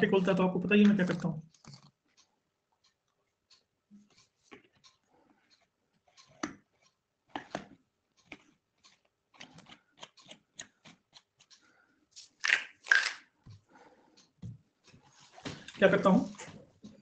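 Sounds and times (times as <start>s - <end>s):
person chewing hard tablets: 1.4s - 17.0s.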